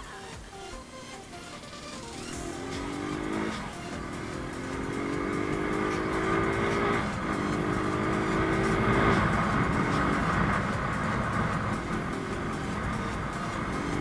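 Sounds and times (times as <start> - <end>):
motorcycle engine accelerating: 0.6 - 14.0.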